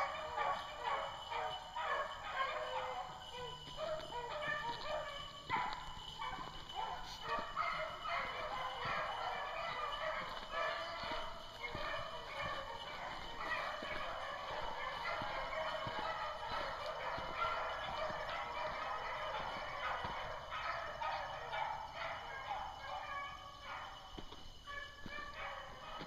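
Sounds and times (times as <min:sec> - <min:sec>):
pack of hounds baying: 0:00.0 - 0:26.0.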